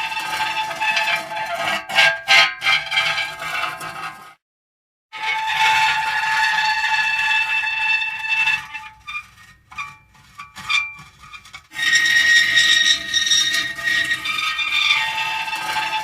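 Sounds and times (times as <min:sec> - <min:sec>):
metal creaking and squealing: 0:00.0 - 0:04.3, 0:05.2 - 0:16.0.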